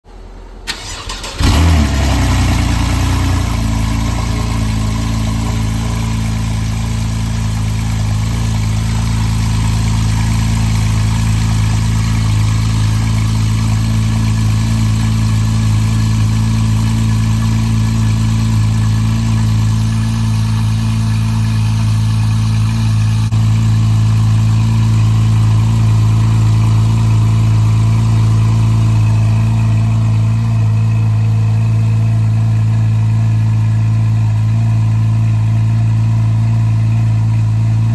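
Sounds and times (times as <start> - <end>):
car engine cold start and idle: 0.1 - 37.9.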